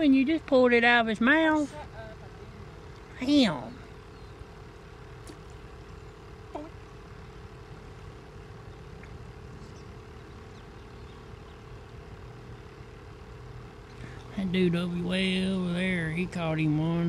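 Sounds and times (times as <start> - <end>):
faint constant hum: 0.0 - 17.0
low outdoor background rumble: 0.0 - 17.0.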